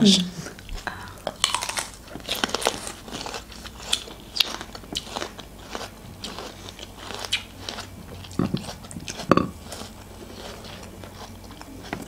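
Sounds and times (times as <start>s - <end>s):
crunching and chewing fruit: 0.4s - 12.0s.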